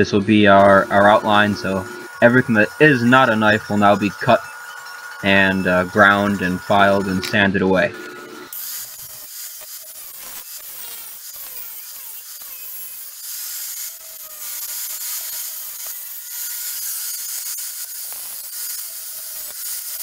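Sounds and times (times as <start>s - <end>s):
angle grinder grinding metal: 0.0s - 20.0s.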